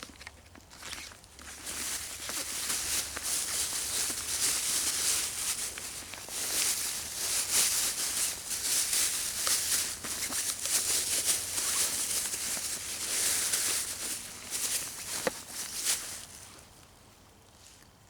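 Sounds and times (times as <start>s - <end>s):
footsteps crunching on trail: 0.1s - 16.9s.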